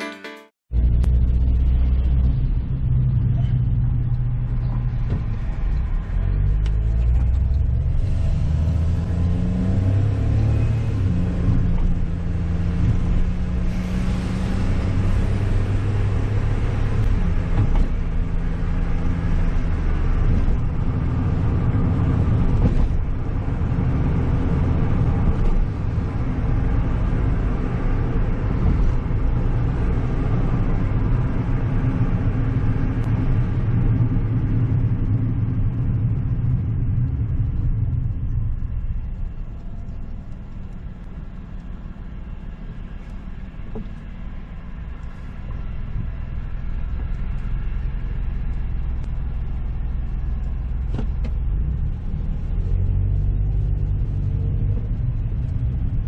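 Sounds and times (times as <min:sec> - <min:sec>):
car engine hum: 0:00.7 - 0:56.0
tyre and road noise: 0:00.7 - 0:56.0.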